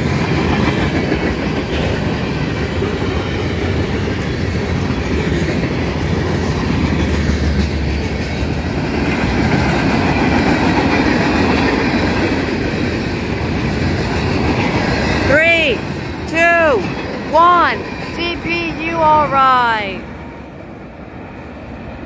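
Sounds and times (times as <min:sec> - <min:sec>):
freight train wheels on rails: 0:00.0 - 0:19.4.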